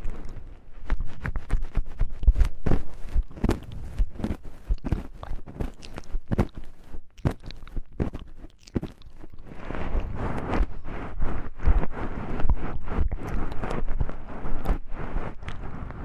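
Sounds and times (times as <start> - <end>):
scratchy rustle: 0.0 - 16.0.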